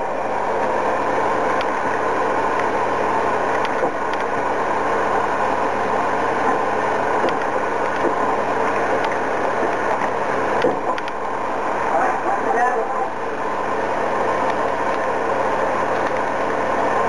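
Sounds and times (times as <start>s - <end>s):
film projector whirring: 0.0s - 17.0s.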